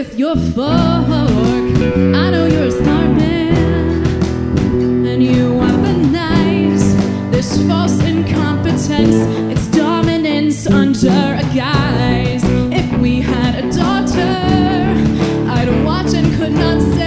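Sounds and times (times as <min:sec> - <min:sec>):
drums: 0:00.0 - 0:17.0
electric guitar: 0:00.0 - 0:17.0
woman singing with vibrato: 0:00.0 - 0:17.0.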